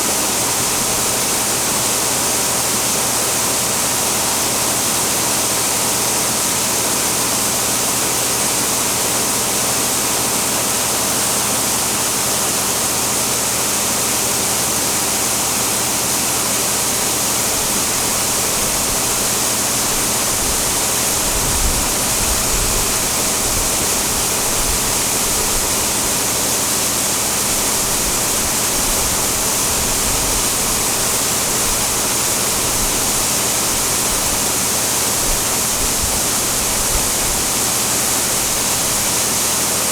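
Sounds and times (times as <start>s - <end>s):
dryer fan rushing: 0.0s - 39.9s.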